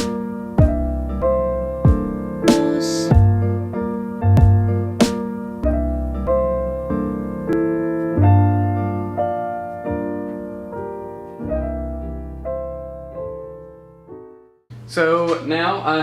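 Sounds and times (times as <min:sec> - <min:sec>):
piano chords over deep bass: 0:00.0 - 0:14.6.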